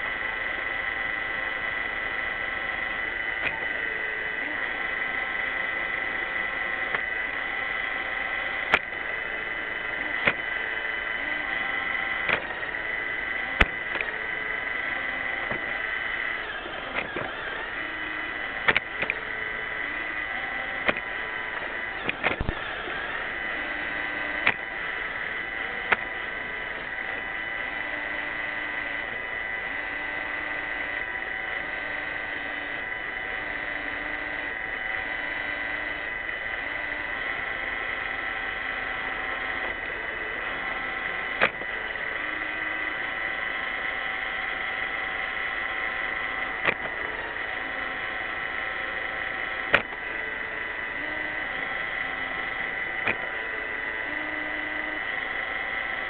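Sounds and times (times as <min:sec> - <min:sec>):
robot vacuum whine: 0:00.0 - 0:56.0.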